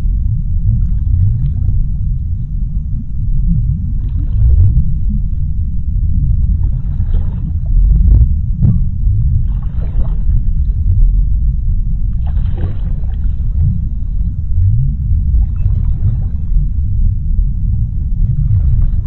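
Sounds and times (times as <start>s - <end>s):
deep underwater rumble: 0.0s - 19.0s
faint sliding low tones: 0.0s - 19.0s.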